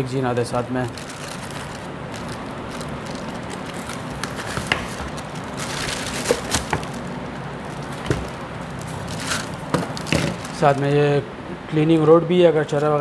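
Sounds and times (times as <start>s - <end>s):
plastic and foam packaging rustling: 0.3s - 11.1s.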